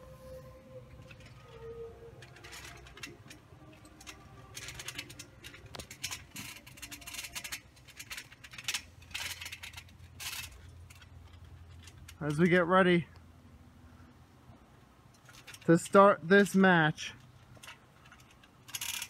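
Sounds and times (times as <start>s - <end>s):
faint rustling and scraping: 0.0s - 12.6s, 14.0s - 19.0s
low steady hum: 0.0s - 15.7s.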